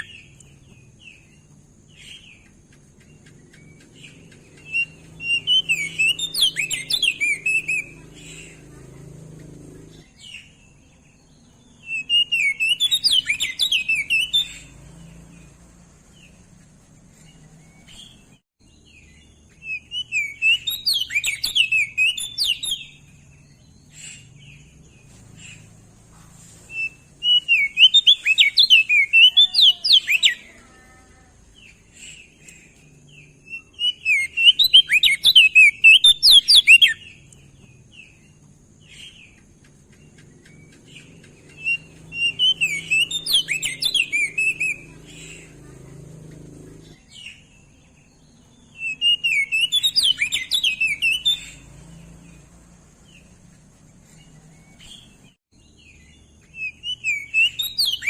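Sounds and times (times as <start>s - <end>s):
bird singing warbling phrases: 0.0s - 58.0s.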